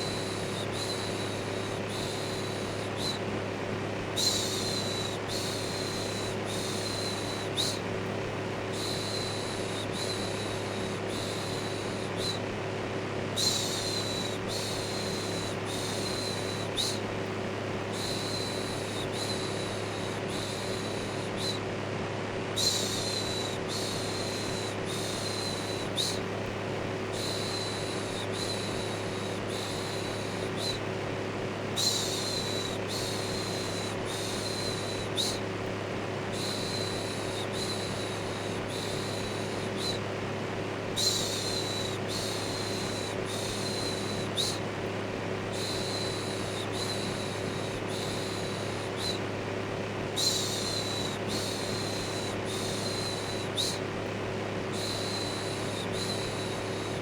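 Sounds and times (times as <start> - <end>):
electric fan motor hum: 0.0 - 57.0.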